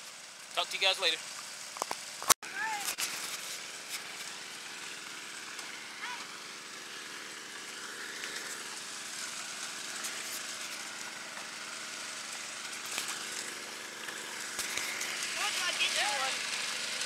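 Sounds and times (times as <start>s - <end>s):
small gasoline engine running: 0.0s - 17.0s
water hissing: 2.8s - 17.0s.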